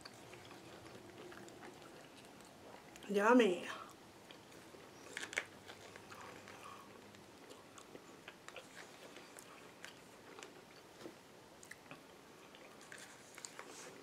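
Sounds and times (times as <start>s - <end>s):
chewing corn kernels: 0.0s - 3.1s, 3.8s - 14.0s.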